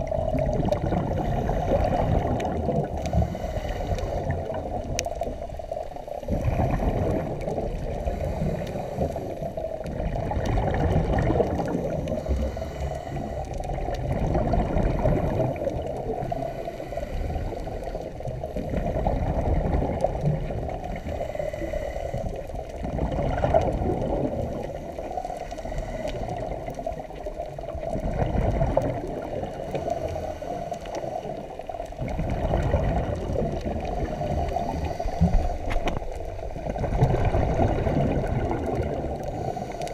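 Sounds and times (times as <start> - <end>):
bubbles gurgling underwater: 0.0 - 39.9
diver breathing through regulator: 0.9 - 19.1, 20.8 - 22.9, 24.0 - 27.5, 29.4 - 32.8, 33.5 - 39.9.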